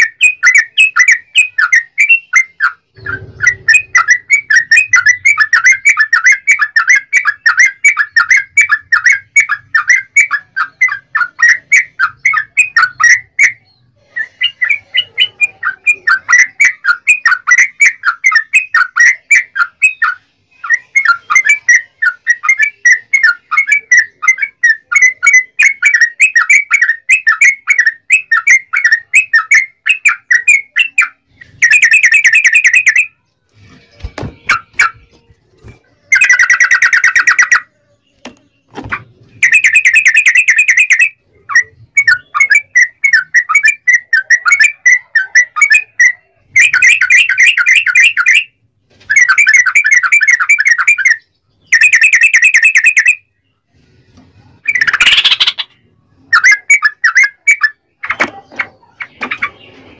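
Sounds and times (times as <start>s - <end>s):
bulbul singing chattering notes: 0.0s - 33.3s, 35.9s - 53.4s, 54.6s - 59.7s.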